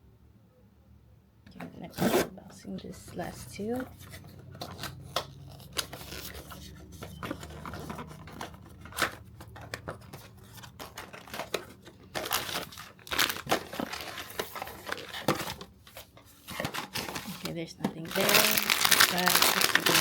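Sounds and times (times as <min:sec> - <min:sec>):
packaging rustling and tearing: 0:03.7 - 0:20.0.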